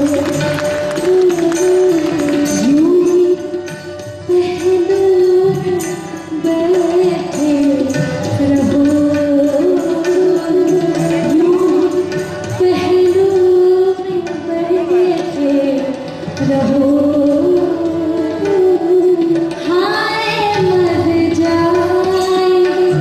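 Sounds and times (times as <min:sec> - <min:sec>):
harmonium: 0:00.0 - 0:23.0
tabla: 0:00.0 - 0:23.0
woman singing: 0:00.0 - 0:23.0.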